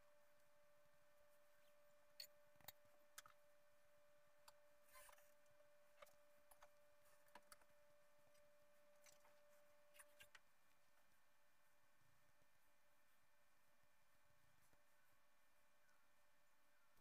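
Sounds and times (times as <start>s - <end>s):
faint steady tone: 0.0s - 17.0s.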